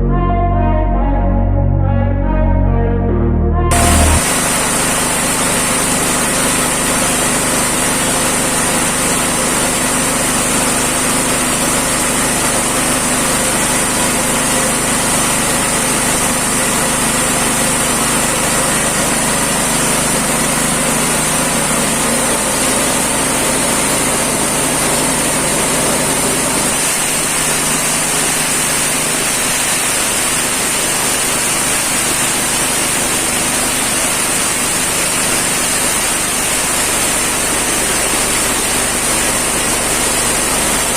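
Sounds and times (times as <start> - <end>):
feed chopper machine humming: 3.6 - 40.9.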